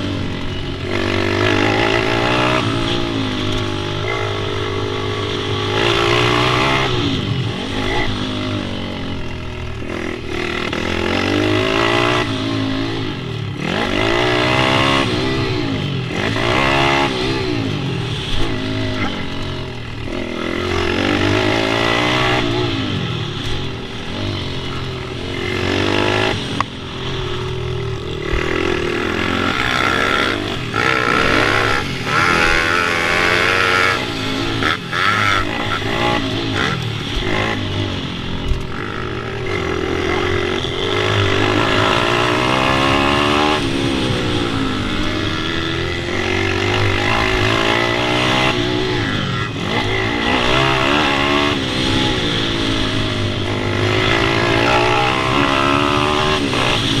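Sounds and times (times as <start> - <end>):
pit bike engine revving: 0.0 - 57.0.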